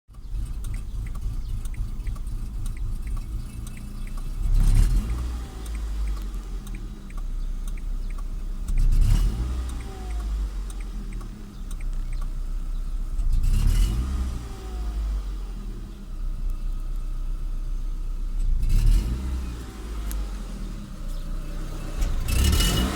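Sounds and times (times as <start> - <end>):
engine ticking: 0.1 - 22.9
petrol engine revving: 0.1 - 22.9.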